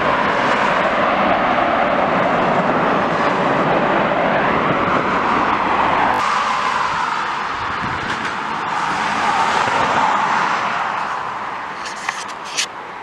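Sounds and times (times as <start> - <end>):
jet engines roaring: 0.0 - 11.8.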